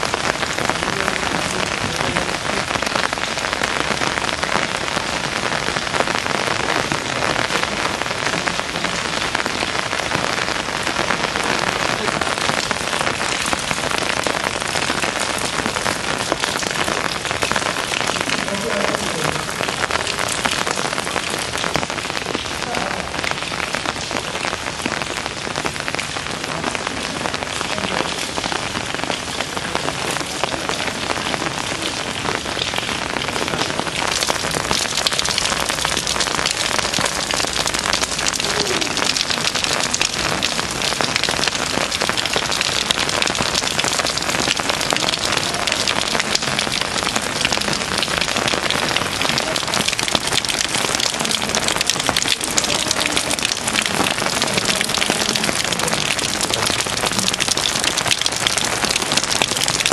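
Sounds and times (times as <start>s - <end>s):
rain falling on water and stone: 0.0s - 59.9s.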